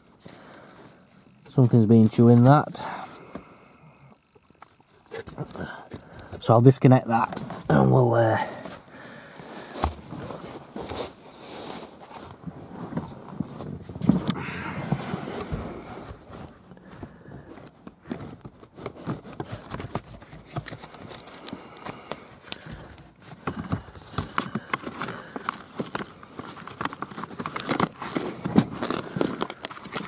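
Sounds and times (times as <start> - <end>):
hands rustling and clicking wiring: 0.0 - 3.2, 4.3 - 7.8, 11.9 - 30.0.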